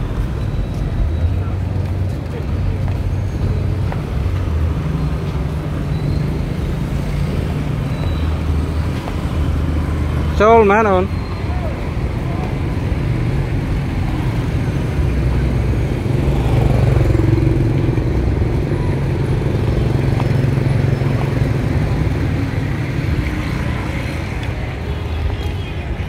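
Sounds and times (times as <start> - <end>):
motorbike engines rumbling: 0.0 - 26.0
road noise: 0.0 - 26.0.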